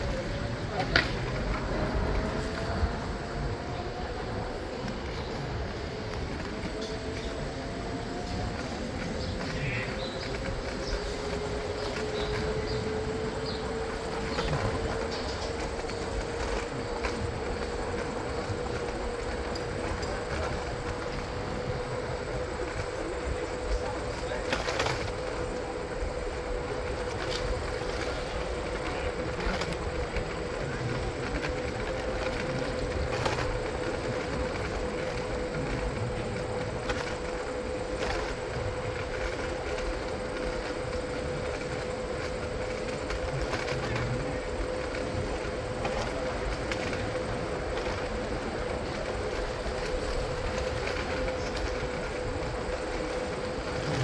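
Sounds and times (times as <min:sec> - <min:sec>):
bike rolling noise: 0:00.0 - 0:54.0
constant hum: 0:00.0 - 0:54.0
tyres rumbling over asphalt: 0:00.0 - 0:54.0.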